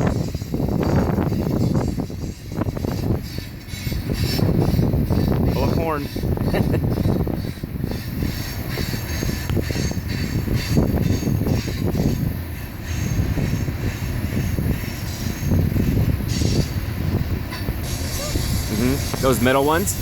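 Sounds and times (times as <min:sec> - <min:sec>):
freight train rumbling on trestle: 0:00.0 - 0:20.0.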